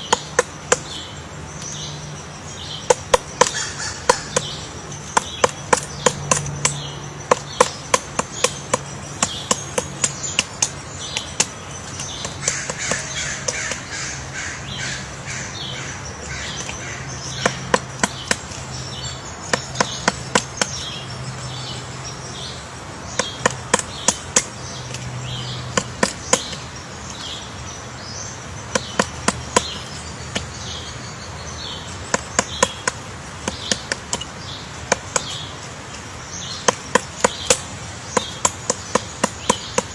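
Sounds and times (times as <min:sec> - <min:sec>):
woodpecker pecking wood: 0:00.0 - 0:39.9.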